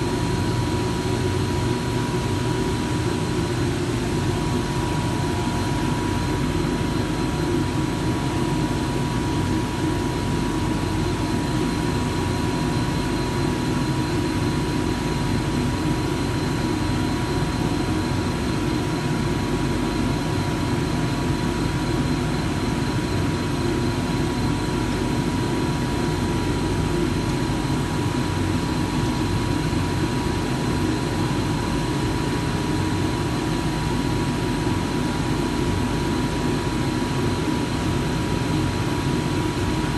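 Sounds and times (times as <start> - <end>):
high machine whine: 0.0 - 39.9.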